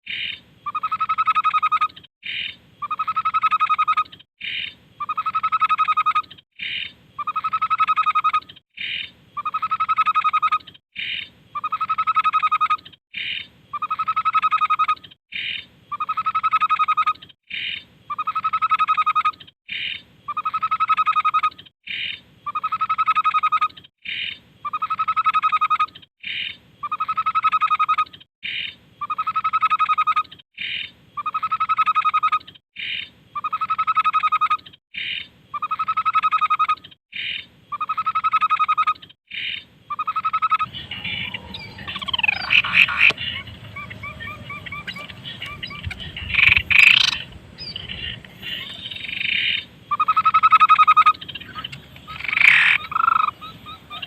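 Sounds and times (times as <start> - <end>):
babbler bird song: 0.1 - 54.0.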